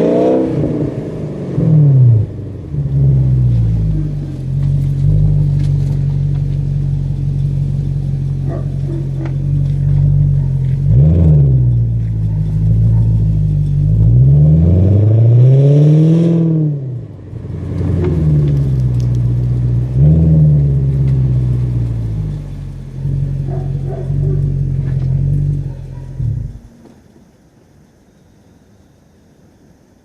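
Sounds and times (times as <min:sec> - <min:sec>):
car engine idling and revving: 0:00.0 - 0:26.8.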